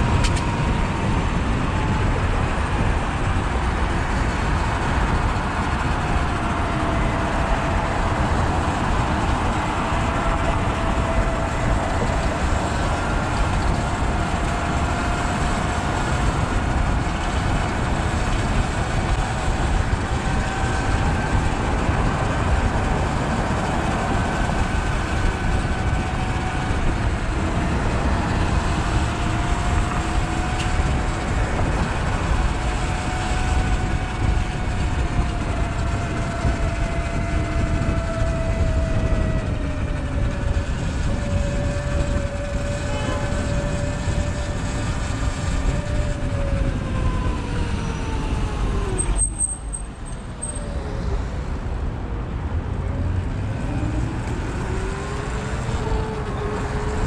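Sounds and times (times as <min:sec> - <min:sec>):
electric dirt bike motor whining: 0:00.0 - 0:51.3, 0:52.9 - 0:57.0
constant low rumble: 0:00.0 - 0:57.0.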